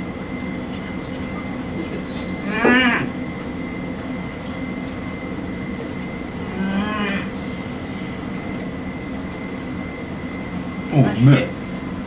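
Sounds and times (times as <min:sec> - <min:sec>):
room hum with high whine: 0:00.0 - 0:12.0.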